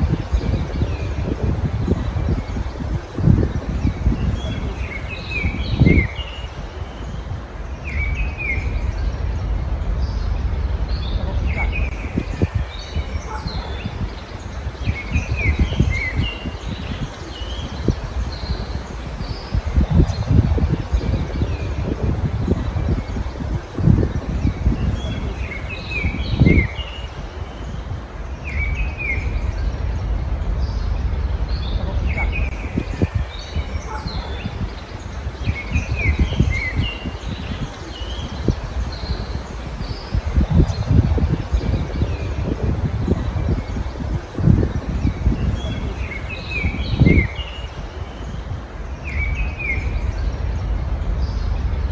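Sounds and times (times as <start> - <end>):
low steady rumble: 0.0 - 51.9
songbirds chirping and singing: 0.0 - 51.9.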